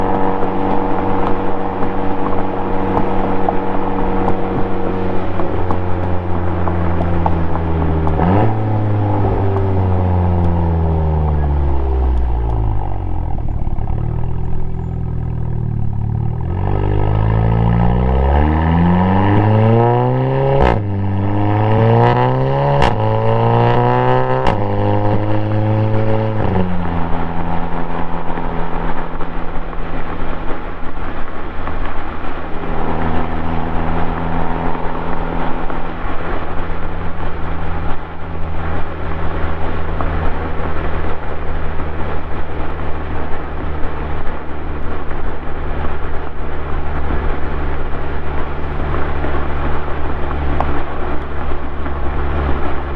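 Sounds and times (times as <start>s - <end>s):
car engine revving: 0.0s - 52.9s
exhaust crack on upshifts: 0.0s - 52.9s.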